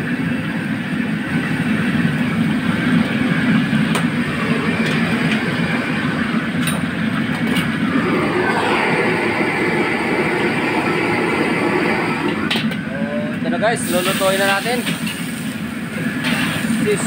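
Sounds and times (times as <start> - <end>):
gas wok burner roaring: 0.0 - 17.0.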